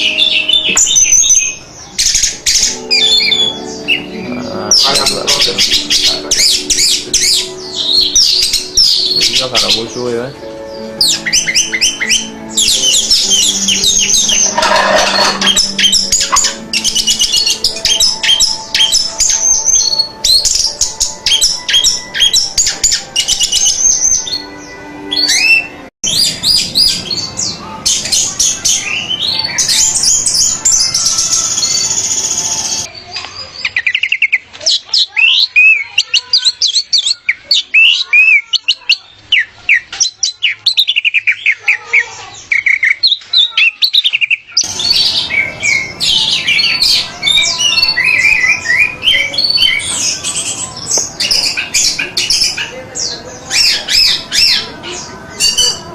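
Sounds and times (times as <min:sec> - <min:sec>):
bird singing whistles and trills: 0:00.0 - 0:10.0, 0:10.7 - 0:32.9, 0:33.6 - 0:55.9.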